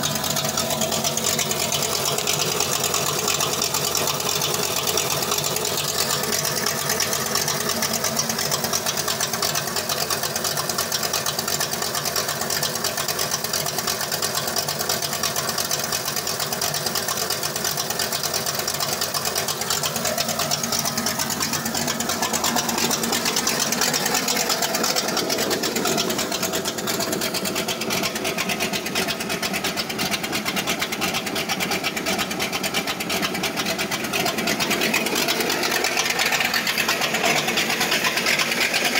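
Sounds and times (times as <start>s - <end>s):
car engine idling with ticking: 0.0s - 38.9s.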